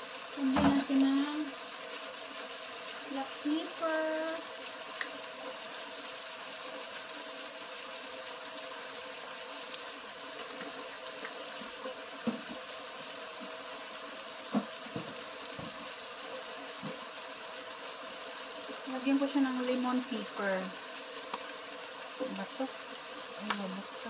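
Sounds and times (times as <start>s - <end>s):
chicken sizzling in frying pan: 0.0s - 24.0s.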